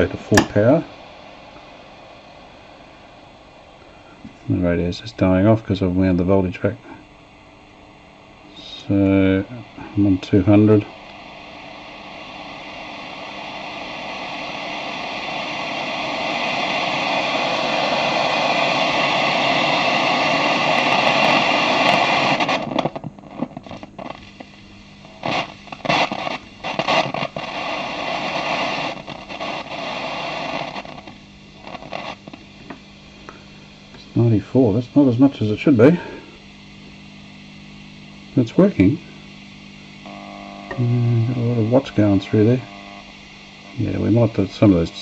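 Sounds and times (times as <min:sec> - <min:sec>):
radio crackles: 0:00.0 - 0:45.0
radio static hiss: 0:00.0 - 0:45.0.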